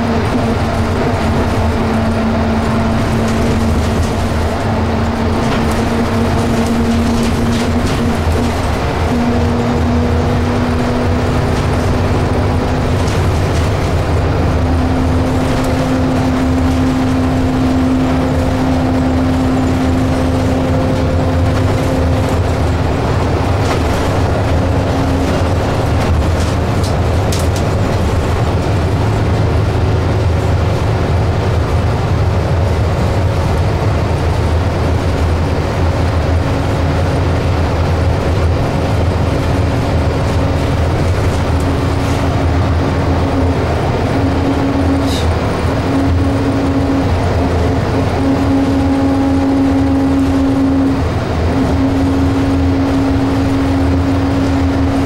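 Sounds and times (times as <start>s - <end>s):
bus diesel engine droning: 0.0s - 55.0s
road and tyre noise: 0.0s - 55.0s.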